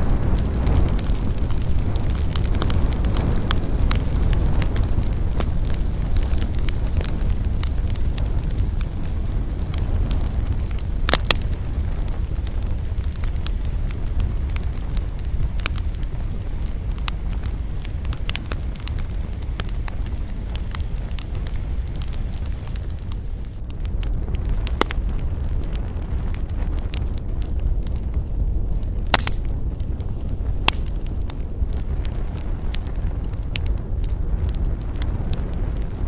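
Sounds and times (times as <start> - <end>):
burning wood crackling and popping: 0.0 - 36.0
campfire flames rumbling: 0.0 - 36.0.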